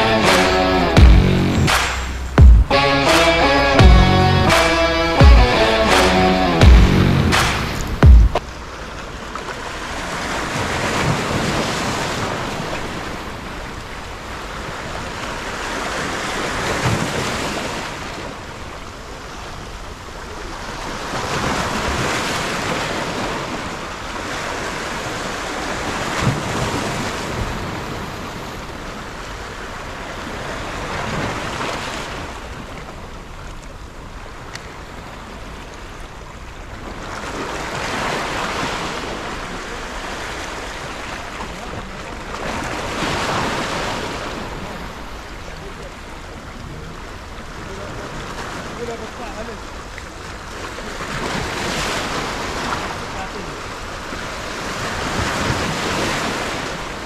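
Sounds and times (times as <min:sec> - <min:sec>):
waves washing over rocks: 0:07.3 - 0:57.0.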